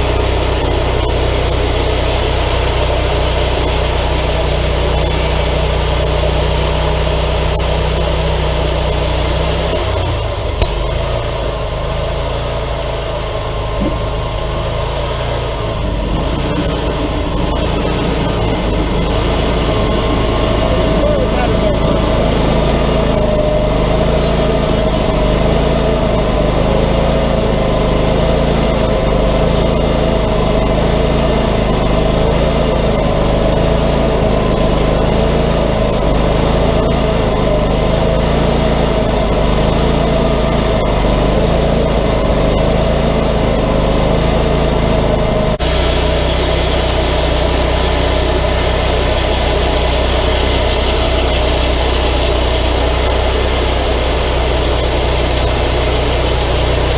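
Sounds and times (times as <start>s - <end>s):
band sawmill engine running: 0.0s - 56.9s
steady engine sound: 0.0s - 56.9s.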